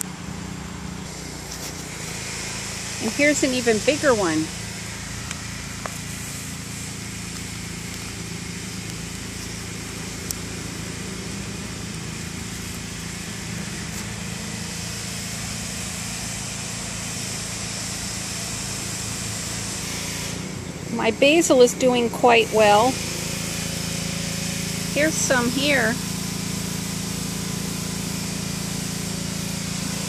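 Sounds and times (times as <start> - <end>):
pressure washer running: 0.0 - 30.0.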